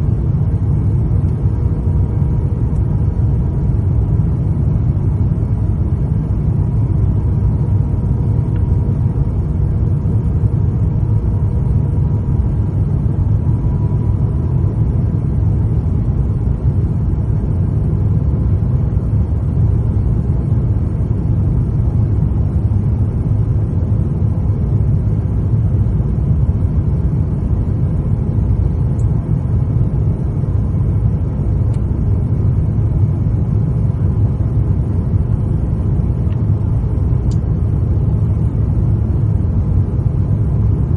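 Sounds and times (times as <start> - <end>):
airliner cabin engine rumble: 0.0 - 40.9
faint steady hum: 0.0 - 40.9.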